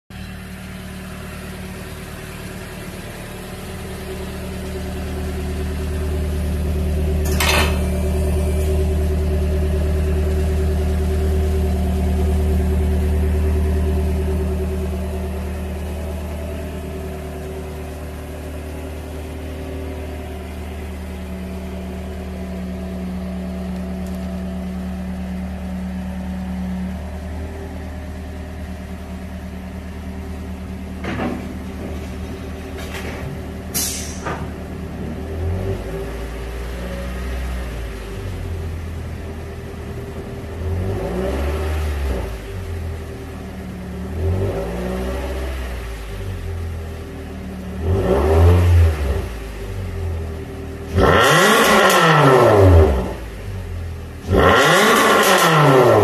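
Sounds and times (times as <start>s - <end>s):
car engine idling drone: 0.1s - 56.0s.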